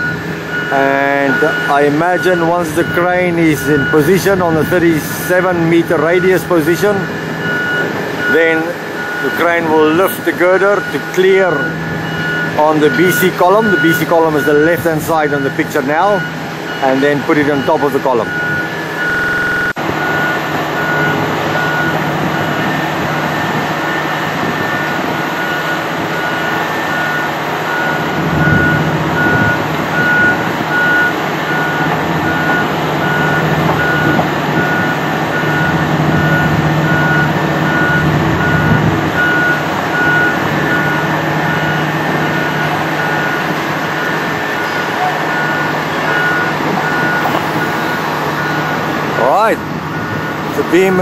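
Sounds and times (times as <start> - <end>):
crane diesel engine running: 0.0 - 51.0
travel alarm beeping: 0.0 - 51.0.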